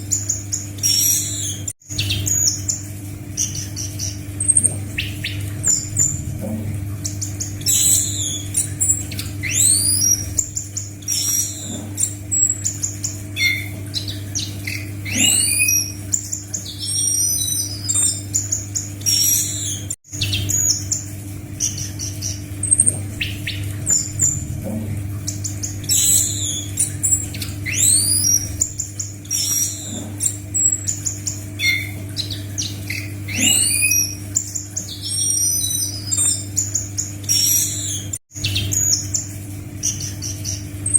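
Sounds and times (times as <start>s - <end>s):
steady low hum: 0.0s - 40.9s
thrush singing whistles and trills: 0.1s - 2.8s, 7.0s - 24.5s, 25.3s - 40.9s.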